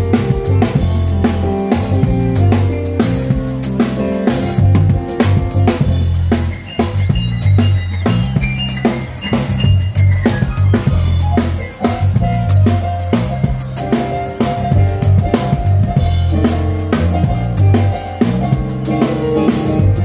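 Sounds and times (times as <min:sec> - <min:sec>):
loud music with heavy bass: 0:00.0 - 0:20.0.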